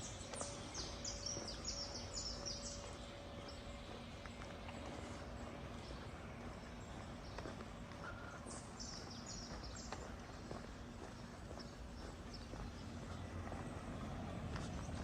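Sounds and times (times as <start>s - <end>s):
footsteps on sand: 0.0s - 15.0s
wind: 0.0s - 15.0s.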